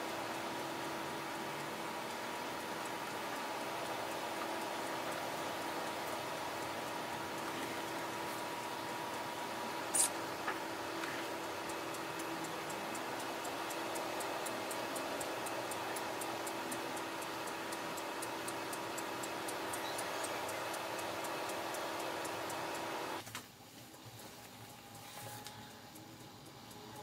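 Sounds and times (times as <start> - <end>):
even mechanical ticking: 0.0 - 23.2, 24.6 - 27.0
motors humming: 0.0 - 23.2.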